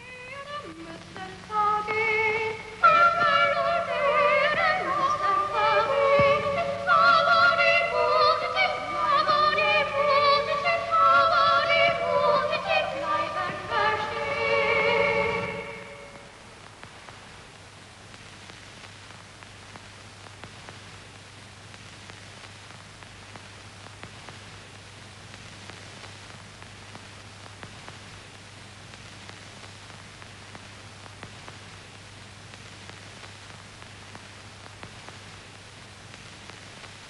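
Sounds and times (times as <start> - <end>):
steady hiss: 0.0 - 37.0
faint crackling clicks: 0.3 - 3.6, 4.4 - 13.8, 15.4 - 37.0.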